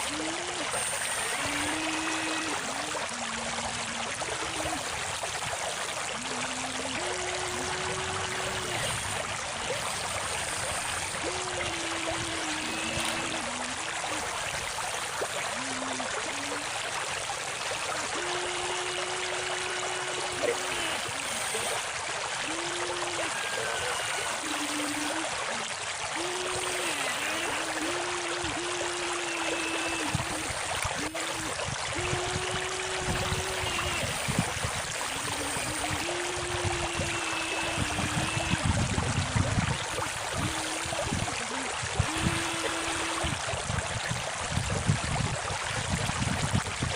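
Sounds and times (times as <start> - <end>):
small electric motors humming: 0.0 - 43.5
river water flowing: 0.0 - 46.9.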